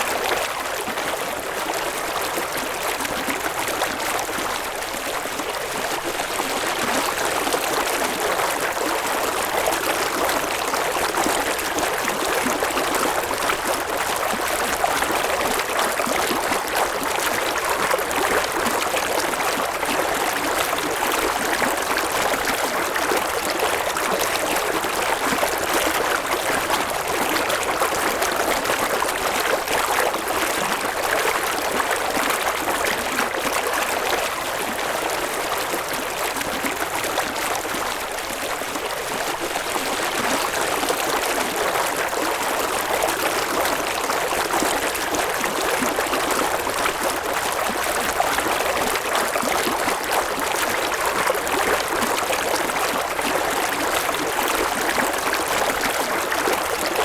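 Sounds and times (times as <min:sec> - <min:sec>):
stream water flowing and splashing: 0:00.0 - 0:57.0.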